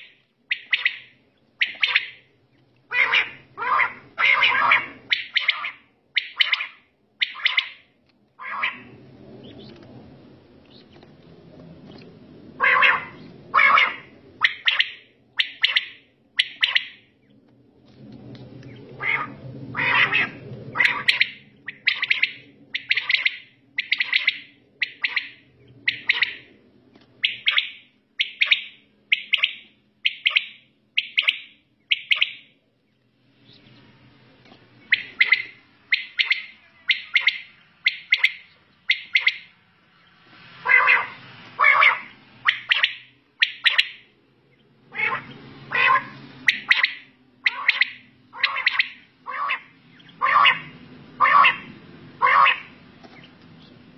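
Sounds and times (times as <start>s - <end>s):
quails calling: 0.0s - 9.8s, 12.6s - 17.3s, 18.7s - 26.5s, 27.2s - 32.5s, 34.8s - 39.5s, 40.6s - 53.8s.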